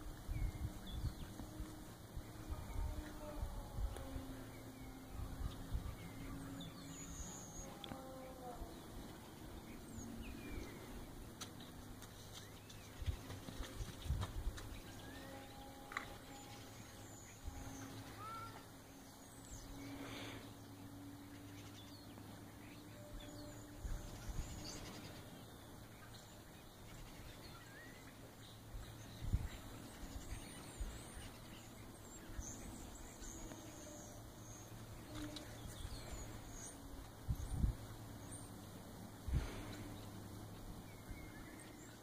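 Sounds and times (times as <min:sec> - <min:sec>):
distant birds chirping: 0:00.0 - 0:42.0
faint steady low hum: 0:00.0 - 0:42.0.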